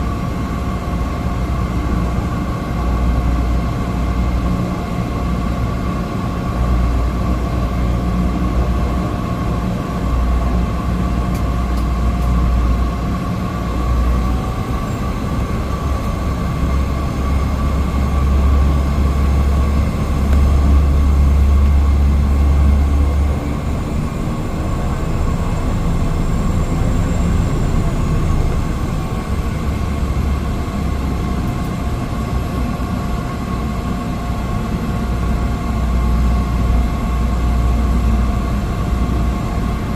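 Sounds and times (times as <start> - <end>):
turboprop engine whine and rumble: 0.0 - 39.9.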